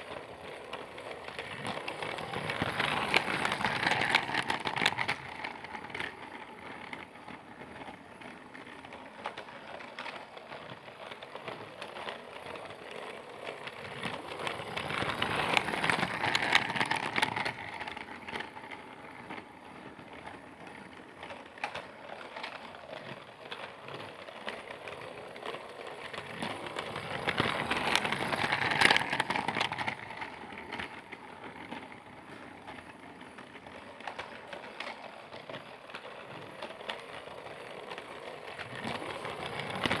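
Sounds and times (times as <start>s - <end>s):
toy train clattering on track: 0.0s - 40.0s.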